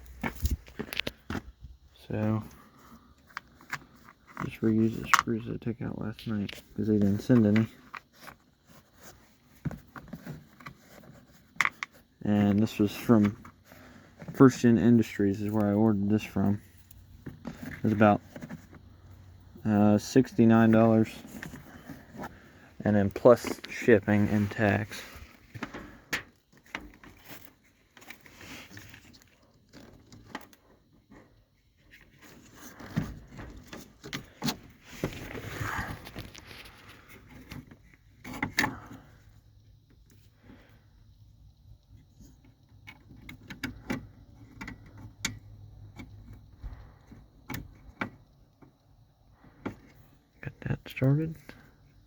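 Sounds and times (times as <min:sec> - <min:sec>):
clicks and rustles of handling: 0:00.0 - 0:40.7, 0:41.8 - 0:52.0.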